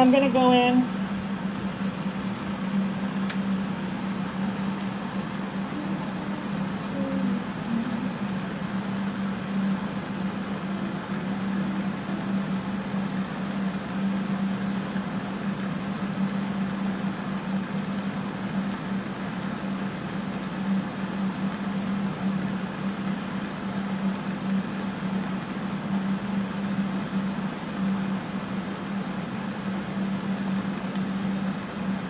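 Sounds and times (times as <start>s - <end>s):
electric fans running: 0.0s - 32.0s.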